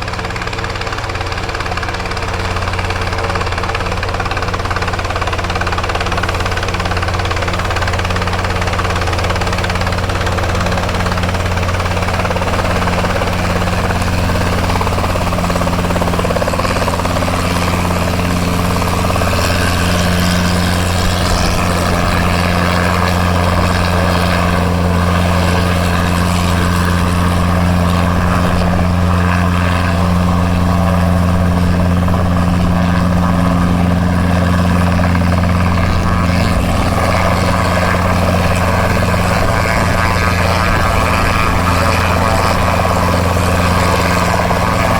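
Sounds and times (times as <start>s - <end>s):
helicopter engine and rotors: 0.0s - 44.9s
low hum: 0.0s - 44.9s.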